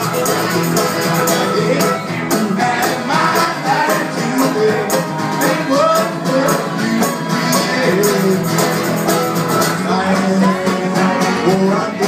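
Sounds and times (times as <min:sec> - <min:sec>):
accordion: 0:00.0 - 0:12.0
mandolin: 0:00.0 - 0:12.0
strummed guitar: 0:00.0 - 0:12.0
upright bass: 0:00.0 - 0:12.0
person singing: 0:00.1 - 0:12.0.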